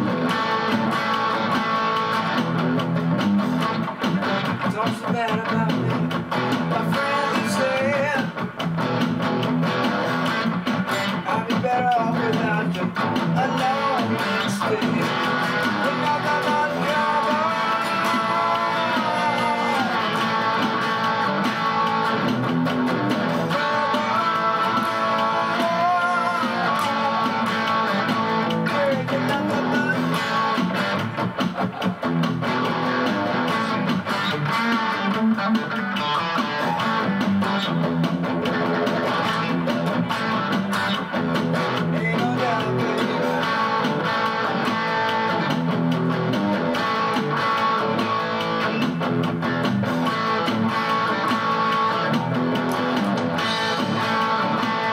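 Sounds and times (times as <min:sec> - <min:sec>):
lead guitar sliding melody: 0:00.0 - 0:54.9
strummed guitar: 0:00.0 - 0:54.9.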